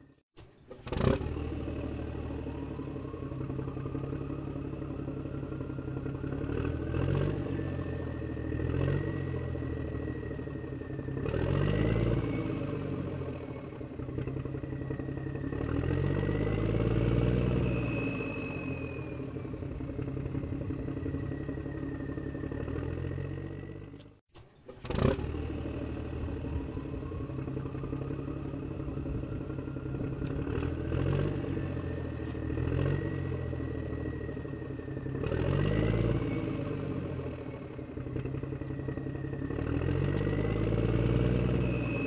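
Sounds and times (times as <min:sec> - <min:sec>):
heavy vehicle engine revving: 0:00.6 - 0:42.0.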